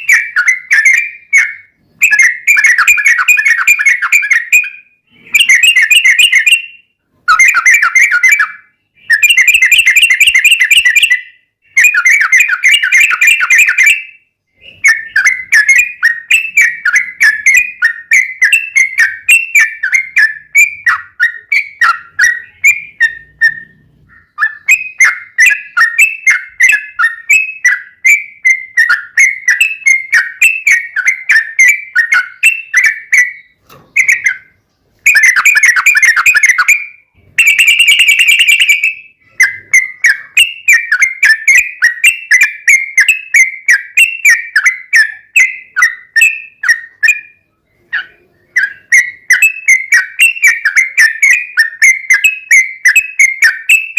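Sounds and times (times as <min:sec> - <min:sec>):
bird whistled notes: 0:00.0 - 0:53.9.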